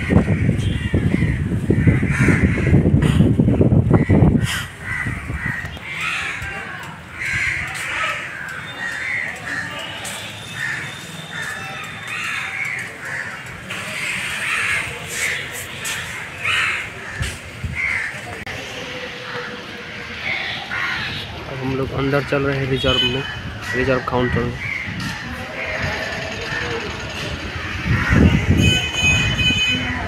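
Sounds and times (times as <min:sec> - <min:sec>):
crows cawing: 0:00.0 - 0:03.3, 0:04.0 - 0:18.4, 0:19.2 - 0:21.4, 0:23.2 - 0:27.0, 0:27.6 - 0:28.6.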